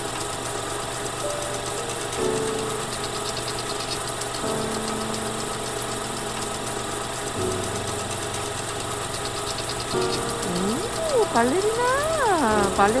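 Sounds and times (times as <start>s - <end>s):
fast pulsing beat: 1.2s - 13.0s.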